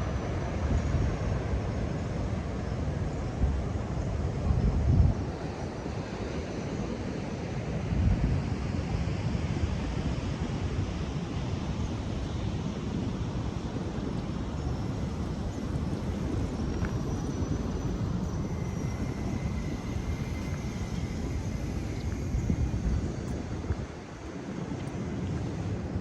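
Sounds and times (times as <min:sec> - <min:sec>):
wind buffeting microphone: 0:00.1 - 0:06.2, 0:07.7 - 0:26.0.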